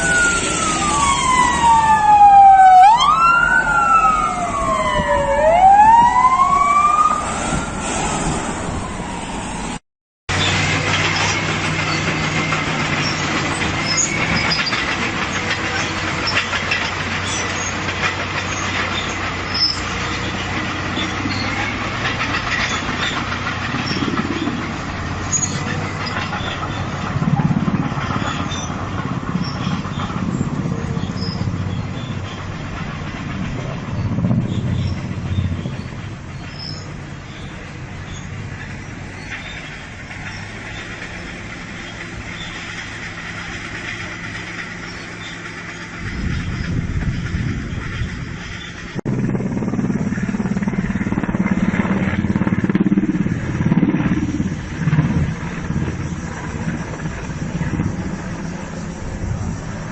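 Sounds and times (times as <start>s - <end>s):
emergency sirens wailing: 0.0s - 59.9s
vehicle engine and road rumble: 0.0s - 59.9s.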